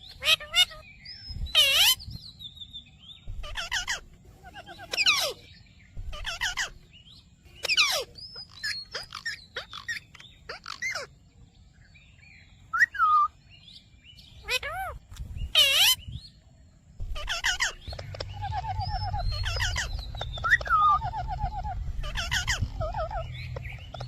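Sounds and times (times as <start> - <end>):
parakeet calling and chattering: 0.0 - 2.4, 3.2 - 11.2, 14.2 - 16.2, 17.0 - 24.0.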